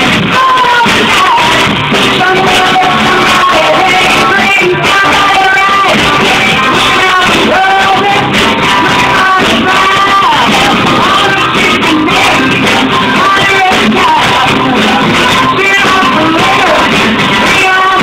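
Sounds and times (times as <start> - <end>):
live rock band playing: 0.0 - 18.0
woman singing into a microphone: 0.0 - 18.0.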